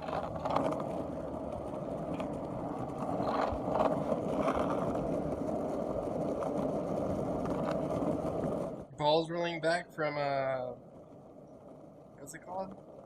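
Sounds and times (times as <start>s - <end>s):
skateboard wheels rolling: 0.0s - 13.0s.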